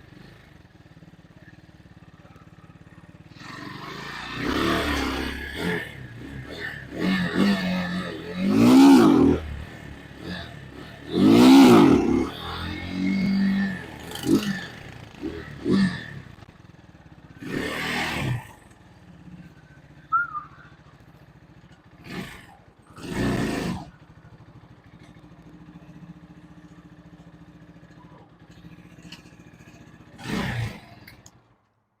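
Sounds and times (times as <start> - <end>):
motorcycle engine idling and revving: 0.0 - 32.0.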